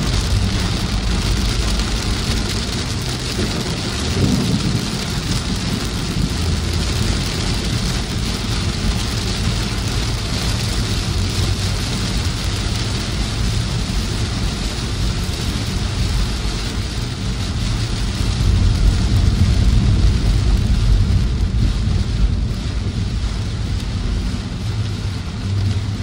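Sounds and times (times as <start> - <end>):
car driving on wet road: 0.0 - 26.0
heavy rain drumming on car roof: 0.0 - 26.0.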